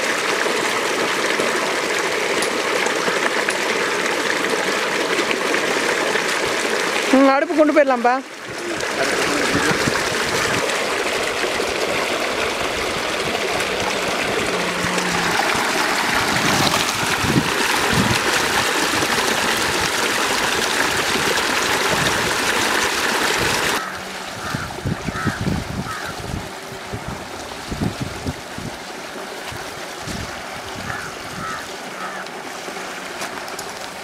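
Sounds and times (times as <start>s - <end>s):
water rushing in a stream: 0.0s - 34.0s.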